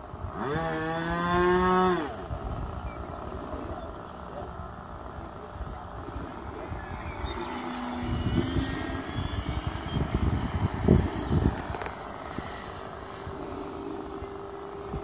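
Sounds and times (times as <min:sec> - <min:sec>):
model airplane engine buzz: 0:00.0 - 0:15.0.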